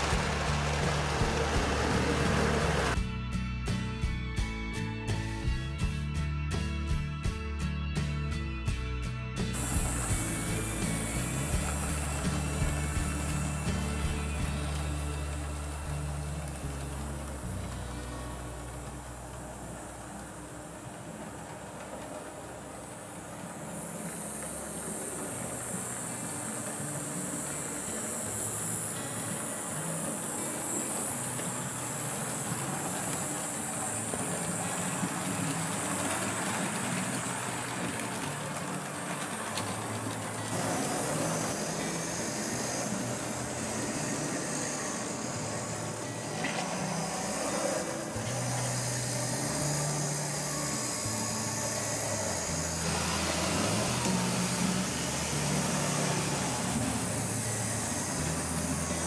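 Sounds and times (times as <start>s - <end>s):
model trains rumbling on track: 0.0s - 3.0s, 9.6s - 59.0s
constant hiss: 9.4s - 59.0s.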